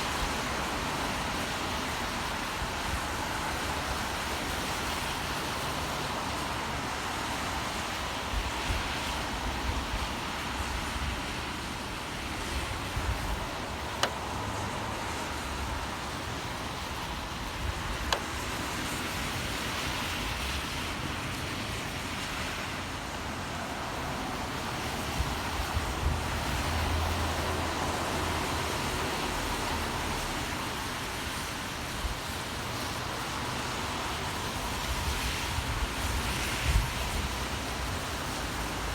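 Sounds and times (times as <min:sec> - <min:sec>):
city traffic hum: 0:00.0 - 0:38.9
steady rain: 0:00.0 - 0:38.9.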